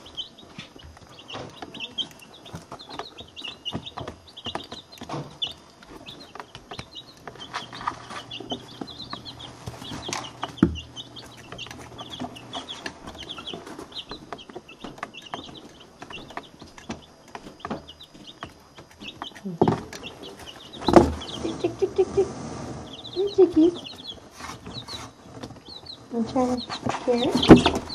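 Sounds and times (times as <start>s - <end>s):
chicks peeping: 0.0s - 27.9s.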